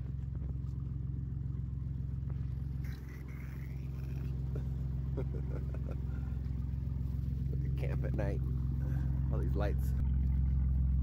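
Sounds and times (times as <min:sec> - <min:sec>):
engine idling: 0:00.0 - 0:11.0
faint whine: 0:00.0 - 0:11.0.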